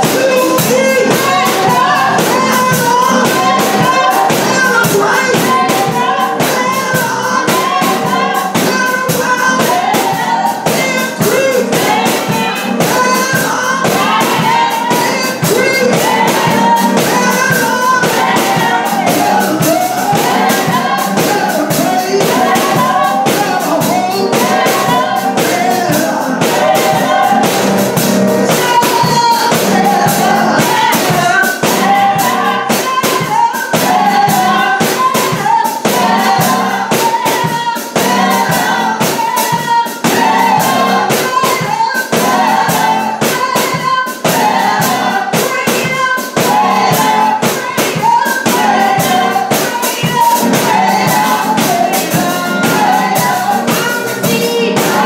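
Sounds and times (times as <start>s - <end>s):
drum kit beat: 0.0s - 55.0s
stage piano: 0.0s - 55.0s
women singing into microphones: 0.0s - 55.0s.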